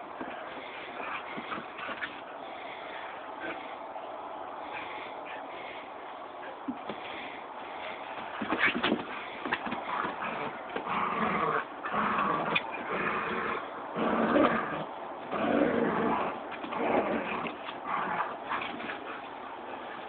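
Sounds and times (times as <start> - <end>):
dogs growling and snarling: 0.0 - 3.9, 6.9 - 20.0.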